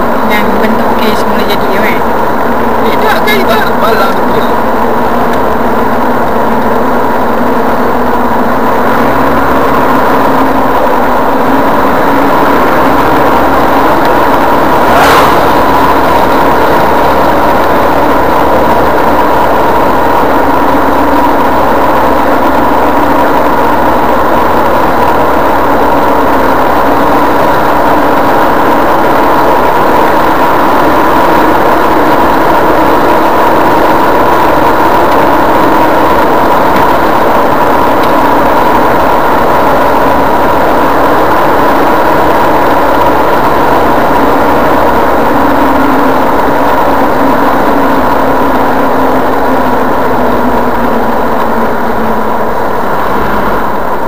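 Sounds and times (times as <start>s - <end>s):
car engine drone: 0.0s - 54.0s
tyre and road noise: 3.8s - 54.0s.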